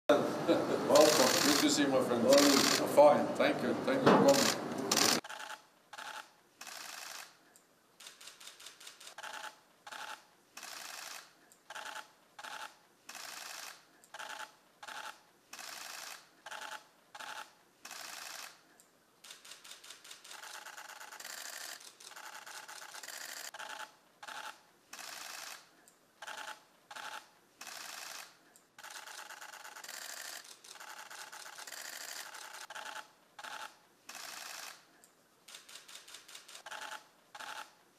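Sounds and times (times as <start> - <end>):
camera shutters clicking: 1.0 - 2.9, 4.1 - 7.4, 8.0 - 18.6, 19.2 - 34.9, 35.5 - 37.8.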